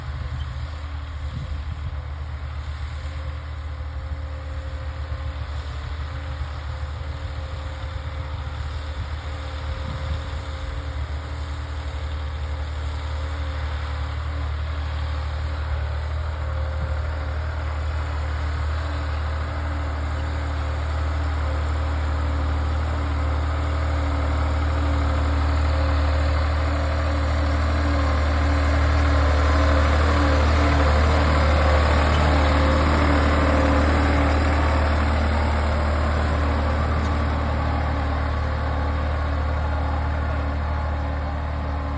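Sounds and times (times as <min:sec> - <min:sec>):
tractor engine running: 0:03.7 - 0:41.9.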